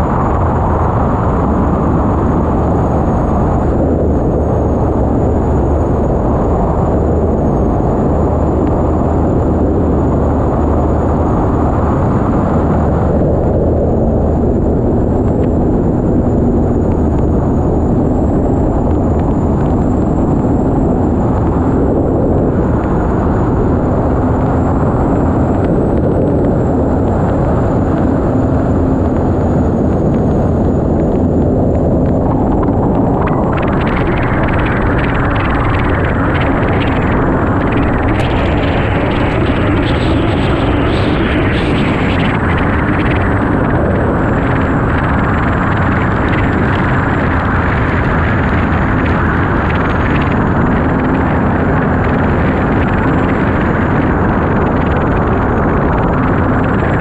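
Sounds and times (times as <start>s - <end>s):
thin high whine: 0.0s - 57.0s
turbine engine running: 0.0s - 57.0s
wind and water rush: 0.0s - 57.0s.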